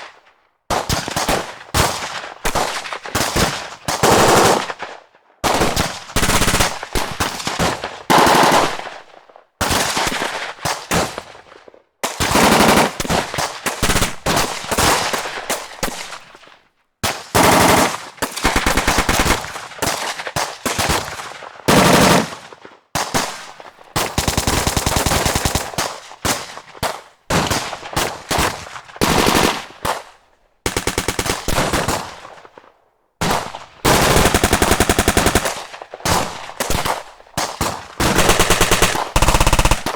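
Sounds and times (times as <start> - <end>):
machine-gun fire bursts: 0.8 - 11.2, 12.1 - 16.2, 17.0 - 26.6, 27.3 - 30.0, 30.6 - 32.4, 33.2 - 39.9.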